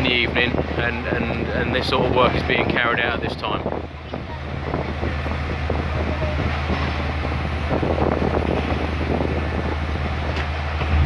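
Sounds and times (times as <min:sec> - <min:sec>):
low engine drone: 0:00.0 - 0:11.0
traffic rumble: 0:00.0 - 0:11.0.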